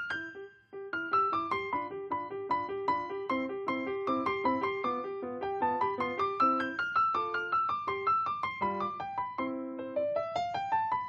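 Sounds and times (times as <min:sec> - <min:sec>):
solo piano piece: 0:00.0 - 0:11.0.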